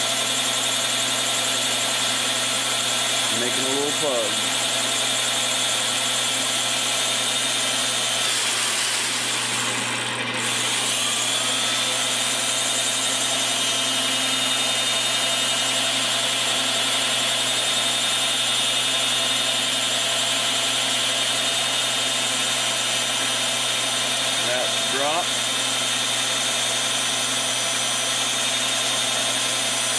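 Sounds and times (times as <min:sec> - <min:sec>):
rotary grinder whining: 0:00.0 - 0:29.9.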